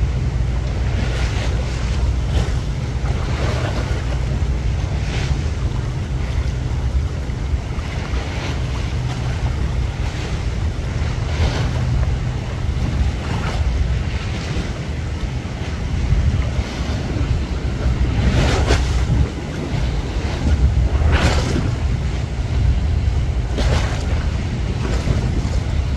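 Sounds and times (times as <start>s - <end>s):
harbour water washing: 0.0s - 25.9s
waves splashing: 0.0s - 25.9s
wind buffeting microphone: 0.0s - 25.9s.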